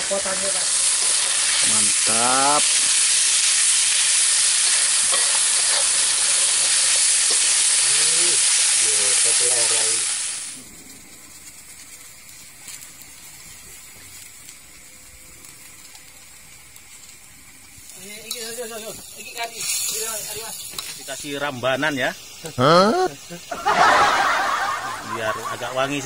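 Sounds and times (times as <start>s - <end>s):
faint hiss: 0.0s - 26.0s
food sizzling in a wok: 0.0s - 26.0s.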